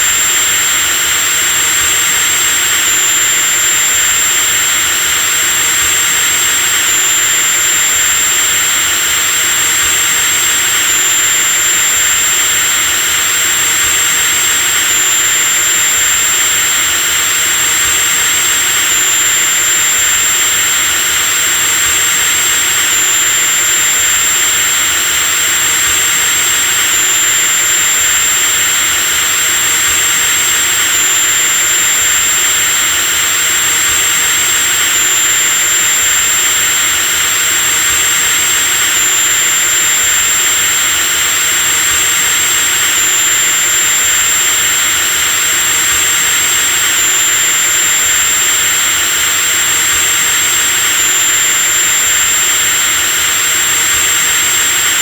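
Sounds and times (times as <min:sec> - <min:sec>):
power drill running: 0:00.0 - 0:55.0.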